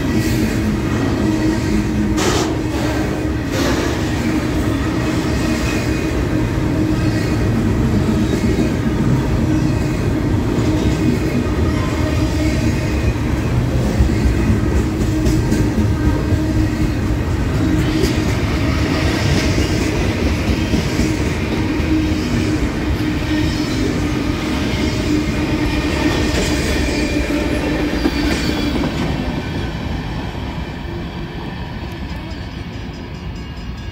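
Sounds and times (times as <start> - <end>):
freight train wheels rolling: 0.0 - 33.9.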